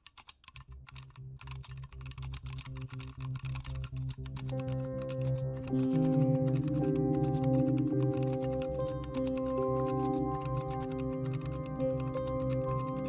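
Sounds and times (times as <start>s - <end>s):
keyboard typing clicks: 0.0s - 13.0s
background music held notes: 0.7s - 13.0s.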